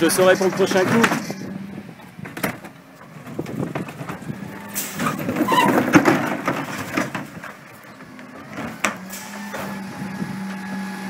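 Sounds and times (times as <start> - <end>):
bin lifter clanks and rattles: 0.0 - 1.4, 2.0 - 9.8
garbage truck engine hum: 0.0 - 11.0.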